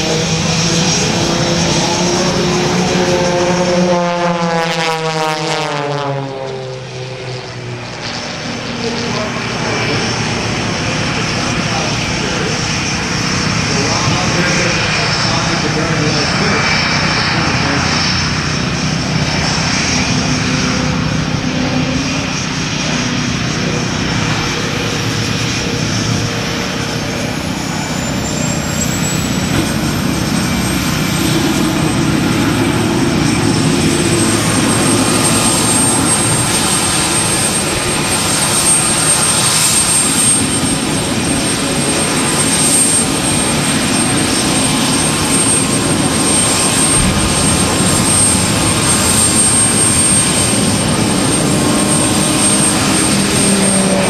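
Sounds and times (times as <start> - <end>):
jet engine idling whine: 0.0 - 54.0
propeller planes droning overhead: 0.0 - 54.0.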